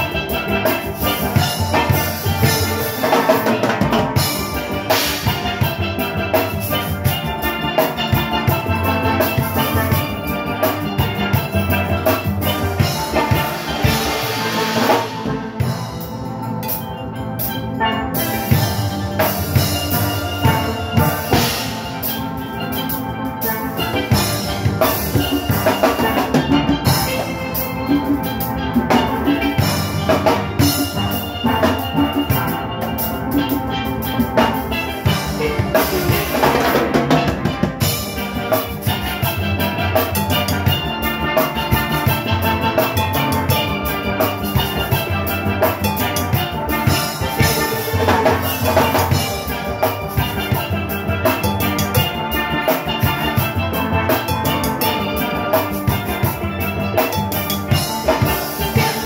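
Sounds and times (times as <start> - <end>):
drum kit and timbales beat: 0.0 - 59.0
steel pans playing tune: 0.0 - 59.0.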